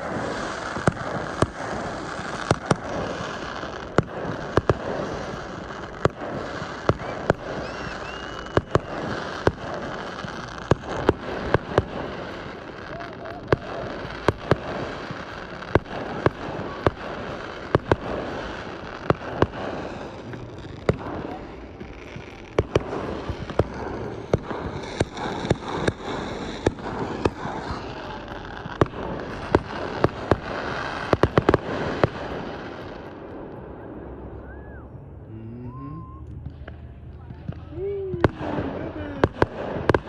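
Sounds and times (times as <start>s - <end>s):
fireworks bangs: 0.0s - 35.0s, 36.0s - 40.0s.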